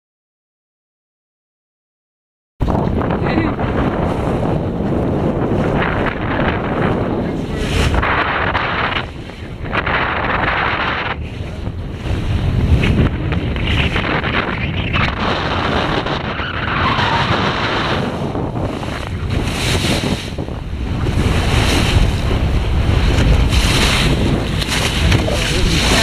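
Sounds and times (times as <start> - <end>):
sea water rushing along hull: 2.6 - 26.0
wind on microphone: 2.6 - 26.0.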